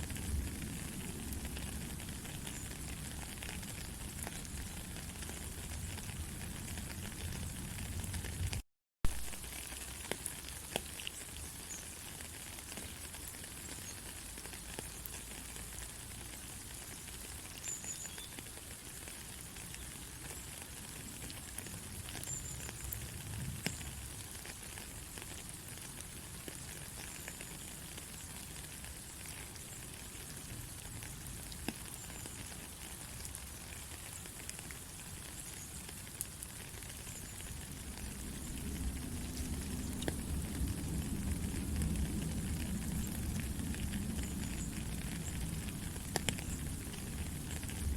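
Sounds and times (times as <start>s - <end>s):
steady rain with drop ticks: 0.0s - 47.9s.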